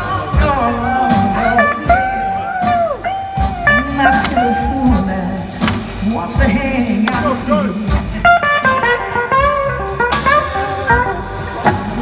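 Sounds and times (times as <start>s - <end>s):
blues band playing: 0.0s - 12.0s.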